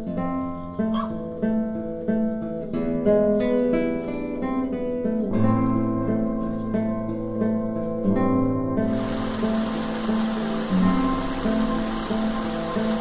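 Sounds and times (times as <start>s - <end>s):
acoustic guitar piece: 0.0s - 13.0s.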